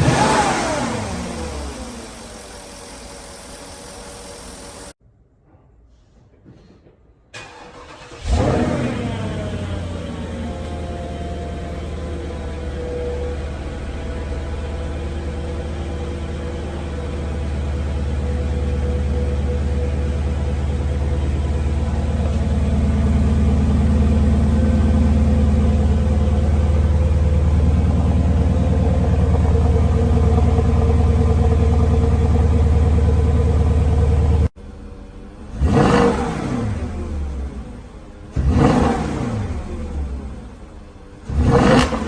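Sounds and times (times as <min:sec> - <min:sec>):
car engine idling and revving: 0:00.0 - 0:05.0, 0:07.4 - 0:42.0.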